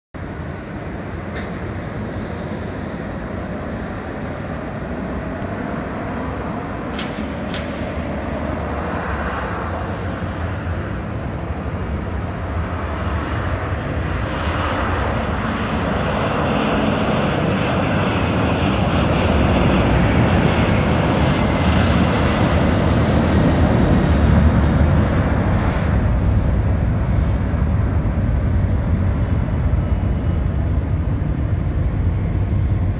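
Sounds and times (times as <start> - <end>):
jet engines roaring: 0.2 - 32.9.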